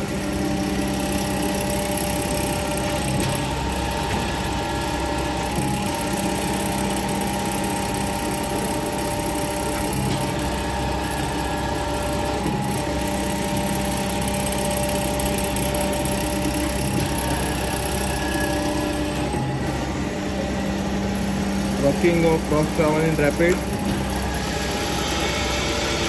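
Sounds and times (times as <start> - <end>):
grinder machine hum: 0.0 - 26.0.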